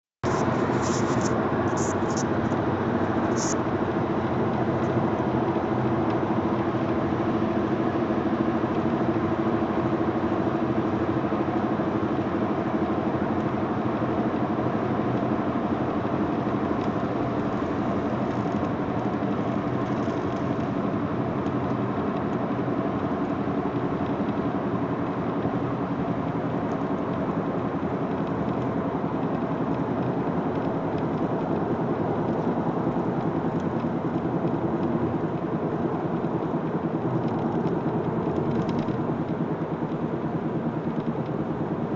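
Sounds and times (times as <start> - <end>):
road tyre and wind noise: 0.2 - 41.9.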